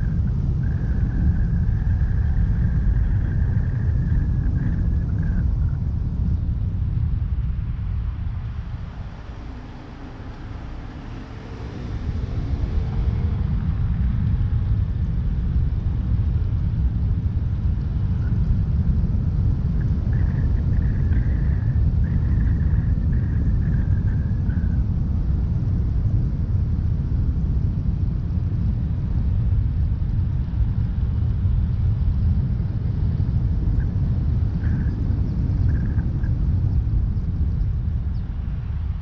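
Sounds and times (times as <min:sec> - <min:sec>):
car road and running noise: 0:00.0 - 0:39.0.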